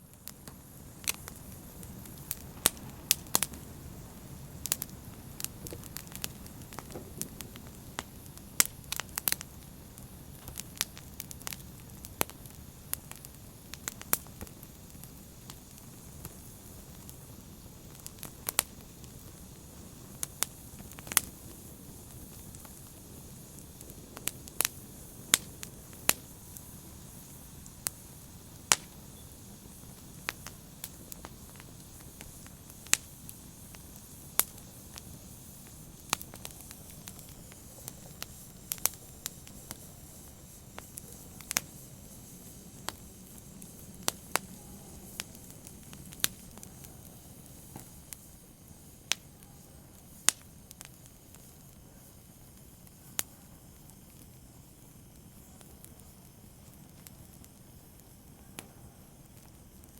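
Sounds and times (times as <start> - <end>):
open fire crackling and popping: 0.0 - 59.9.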